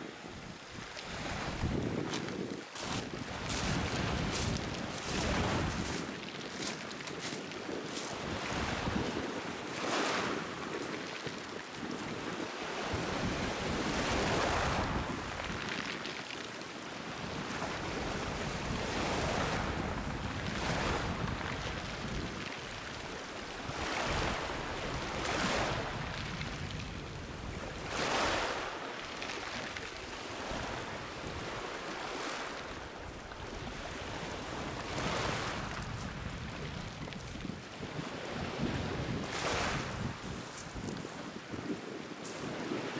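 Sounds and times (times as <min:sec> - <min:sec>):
wind buffeting microphone: 0:00.0 - 0:16.1, 0:17.1 - 0:28.7, 0:29.6 - 0:42.9
waves washing onto pebble beach: 0:00.0 - 0:42.9.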